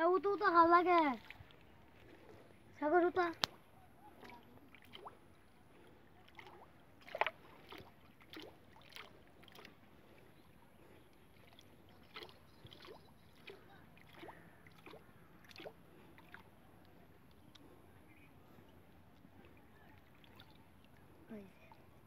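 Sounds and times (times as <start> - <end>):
small water splashes: 0.0 - 18.2, 19.1 - 22.0.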